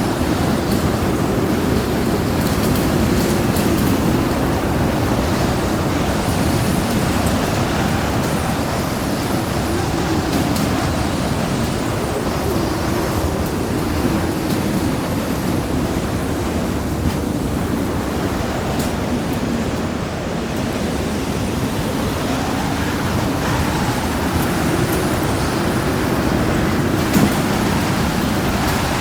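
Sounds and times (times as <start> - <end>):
storm wind howling: 0.0 - 29.0.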